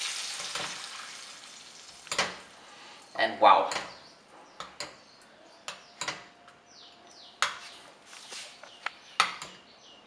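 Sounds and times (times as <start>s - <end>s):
small birds chirping: 1.8s - 10.0s.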